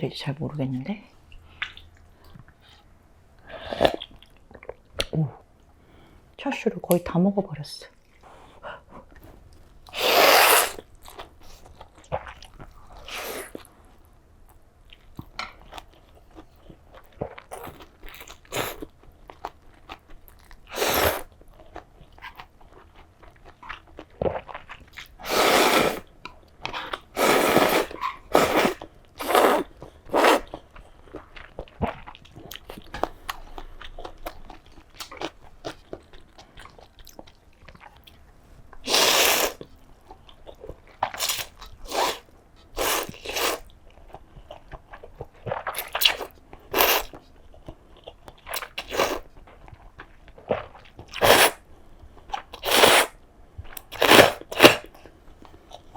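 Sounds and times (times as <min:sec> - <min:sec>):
chewing and mouth noises: 0:01.3 - 0:02.9, 0:08.0 - 0:13.8, 0:14.5 - 0:55.9.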